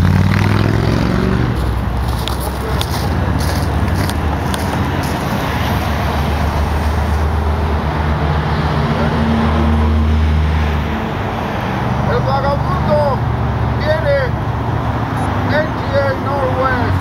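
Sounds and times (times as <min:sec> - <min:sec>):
road traffic noise: 0:00.0 - 0:17.0
vehicle engine drone: 0:00.0 - 0:17.0.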